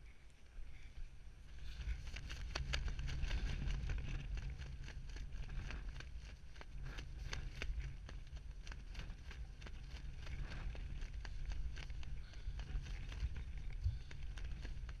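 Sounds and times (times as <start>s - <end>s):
wind buffeting microphone: 1.4s - 15.0s
crackling clicks: 1.8s - 15.0s.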